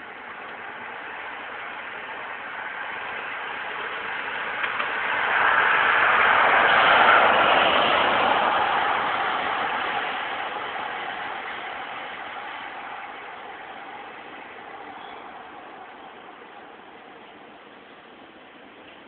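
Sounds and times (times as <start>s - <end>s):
vehicle passing: 0.0s - 18.4s.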